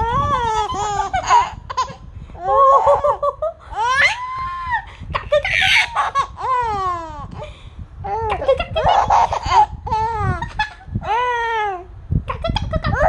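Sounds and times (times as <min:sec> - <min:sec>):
baby laughing and squealing: 0:00.0 - 0:07.5, 0:08.1 - 0:11.8.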